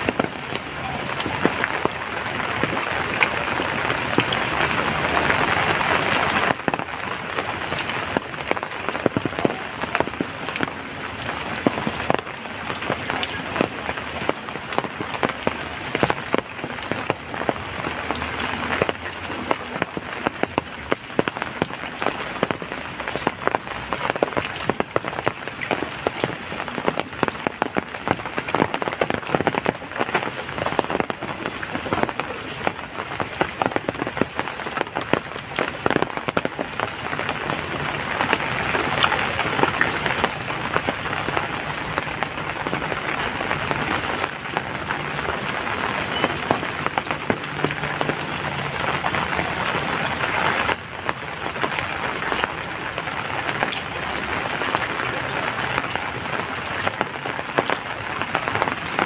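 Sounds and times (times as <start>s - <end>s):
raindrops ticking close by: 0.0s - 59.0s
steady rainfall hiss: 0.0s - 59.0s.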